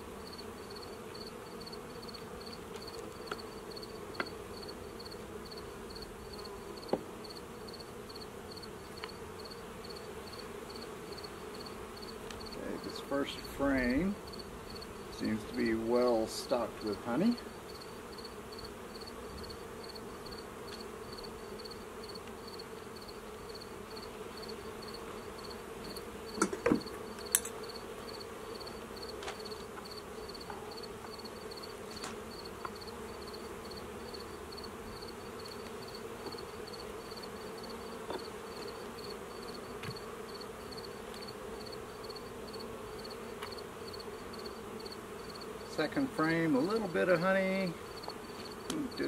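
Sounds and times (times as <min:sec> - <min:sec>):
bees buzzing: 0:00.0 - 0:49.0.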